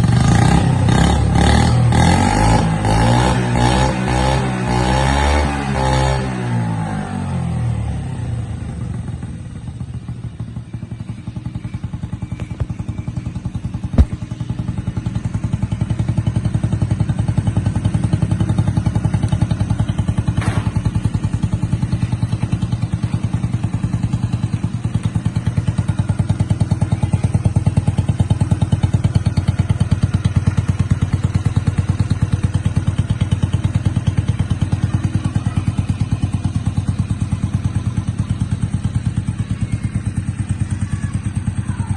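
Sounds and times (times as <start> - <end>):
motorcycle engine idling: 0.0 - 4.3, 6.3 - 41.9.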